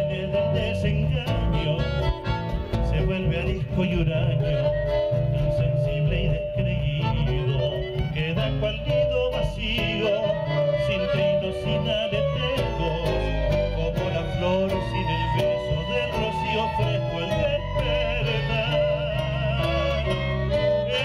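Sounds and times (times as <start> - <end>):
accordion: 0.0 - 21.0
low bass line: 0.0 - 21.0
strummed guitars: 0.0 - 21.0
violins playing melody: 1.1 - 21.0.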